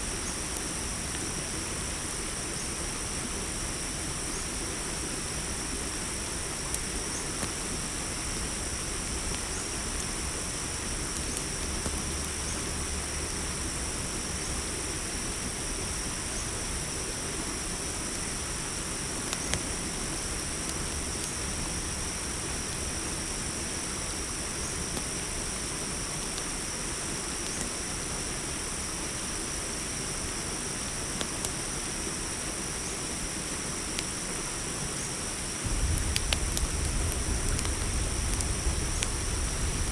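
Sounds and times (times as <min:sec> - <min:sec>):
crickets trilling: 0:00.0 - 0:39.9
campfire crackling pops: 0:00.2 - 0:27.9, 0:35.6 - 0:39.9.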